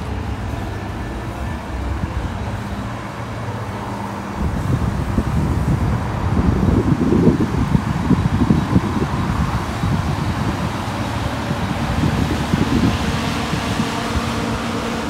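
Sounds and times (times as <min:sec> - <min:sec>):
traffic engine hum: 0:00.0 - 0:15.0.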